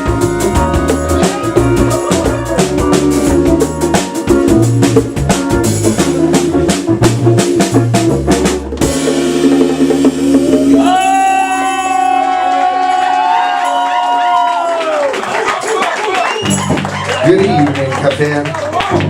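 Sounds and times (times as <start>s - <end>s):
bass line: 0.0s - 15.0s, 16.4s - 17.7s
drum kit beat: 0.0s - 17.6s
live band playing: 0.0s - 19.0s.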